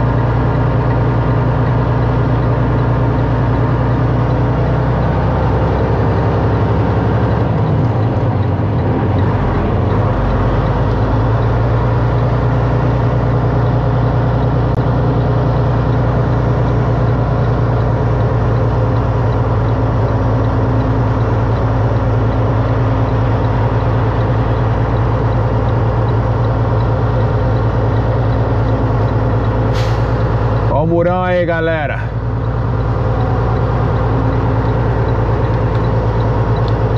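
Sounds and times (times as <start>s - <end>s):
diesel truck engine drone: 0.0s - 36.9s.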